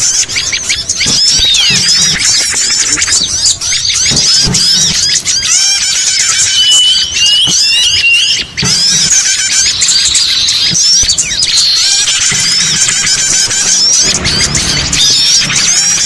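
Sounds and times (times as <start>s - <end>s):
songbirds chirping: 0.0s - 16.0s
high whistle: 1.0s - 16.0s.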